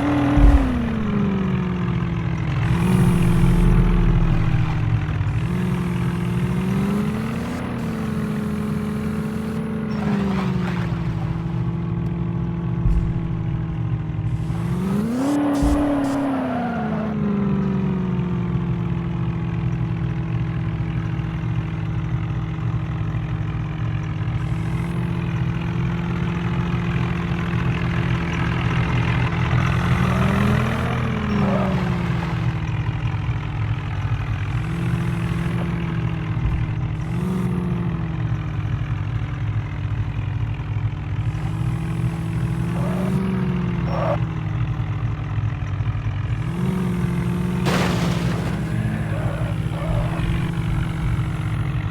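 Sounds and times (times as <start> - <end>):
vehicle engine revving: 0.0 - 23.2, 24.2 - 51.9.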